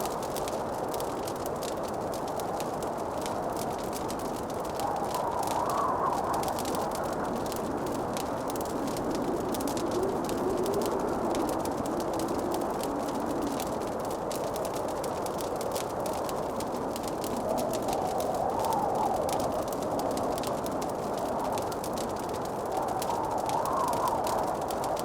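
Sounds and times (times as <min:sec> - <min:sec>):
burning wood hissing: 0:00.0 - 0:25.0
fireplace crackling and popping: 0:00.0 - 0:25.0.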